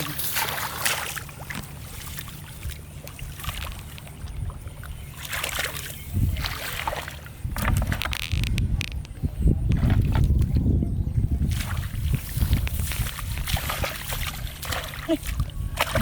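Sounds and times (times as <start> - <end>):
water splashing and sloshing: 0.0 - 10.7, 11.3 - 16.0
steady low rumble: 0.0 - 16.0.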